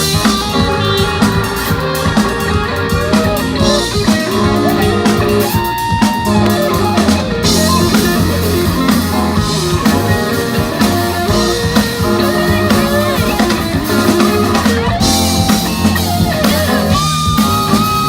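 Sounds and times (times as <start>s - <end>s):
drum kit beat: 0.0s - 18.0s
guitar: 0.0s - 18.0s.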